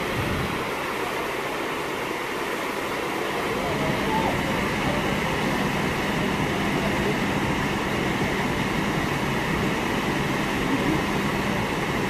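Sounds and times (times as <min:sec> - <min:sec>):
churning water rushing: 0:00.0 - 0:12.0.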